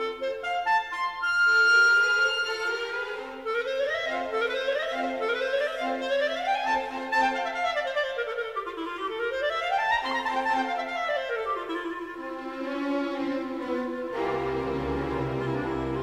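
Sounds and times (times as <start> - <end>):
solo clarinet: 0.0 - 16.0.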